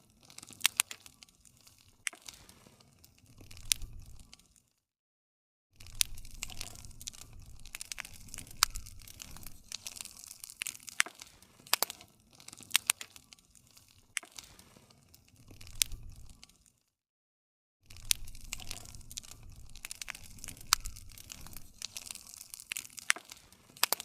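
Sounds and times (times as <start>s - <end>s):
wood fire crackling: 0.0s - 4.8s, 5.8s - 16.9s, 17.9s - 24.0s.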